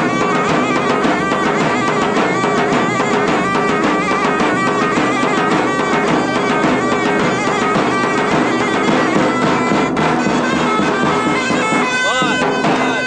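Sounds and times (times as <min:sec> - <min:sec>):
steady drum beat: 0:00.0 - 0:13.0
wind instrument melody: 0:00.0 - 0:13.0.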